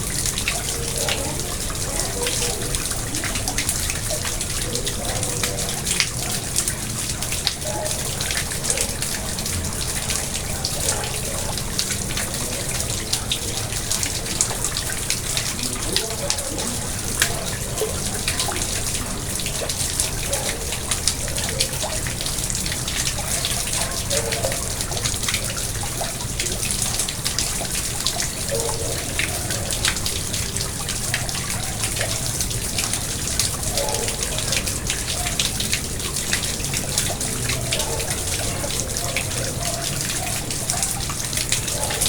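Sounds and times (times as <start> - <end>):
pond water trickling and splashing: 0.0 - 42.0.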